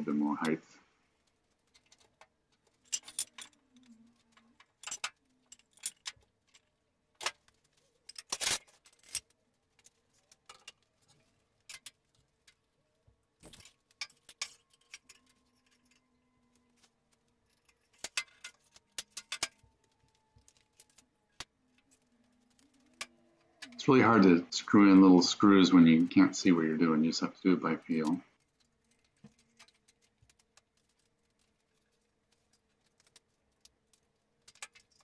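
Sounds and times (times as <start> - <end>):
metallic clicks and clinks: 1.5 - 12.8, 13.4 - 24.3, 27.8 - 35.0.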